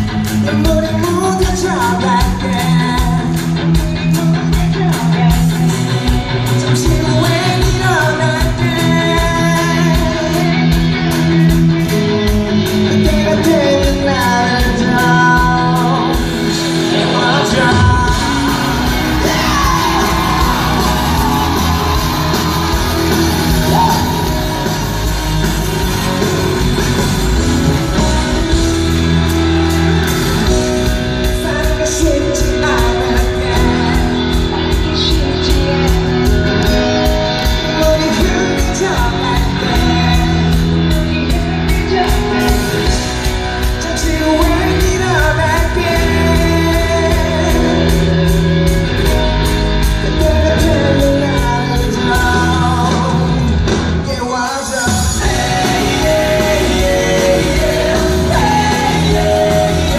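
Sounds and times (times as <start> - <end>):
drums: 0.0 - 59.9
guitar: 0.0 - 59.9
man singing rock song: 0.0 - 59.9.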